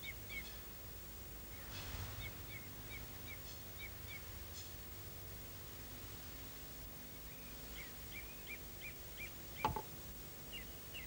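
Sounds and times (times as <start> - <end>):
faint steady hum and hiss: 0.0 - 11.0.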